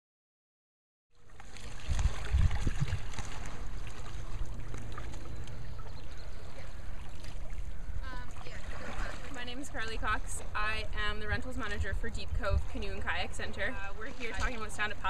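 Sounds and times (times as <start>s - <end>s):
paddle strokes through water: 1.2s - 15.0s
water trickling and splashing: 1.2s - 15.0s.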